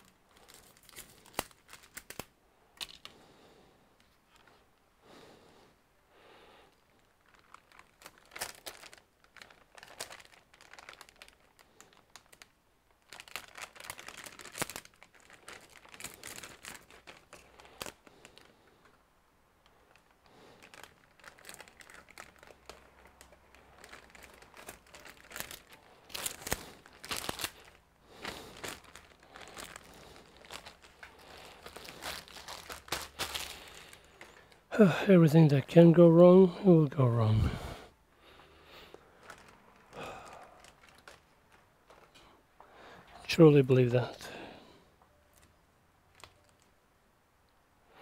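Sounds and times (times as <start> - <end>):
plastic bag crinkling: 0.0 - 3.3, 6.7 - 46.8.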